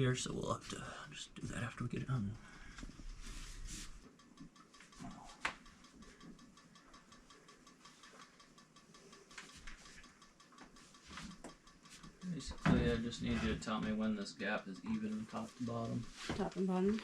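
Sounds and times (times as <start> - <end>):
faint even ticking: 0.0 - 17.0.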